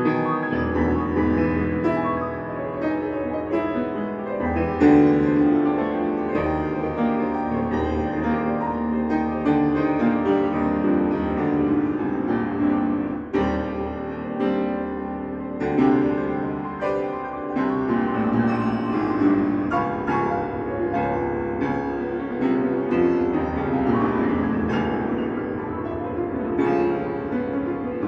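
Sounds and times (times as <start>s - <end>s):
grand piano playing: 0.0s - 28.0s.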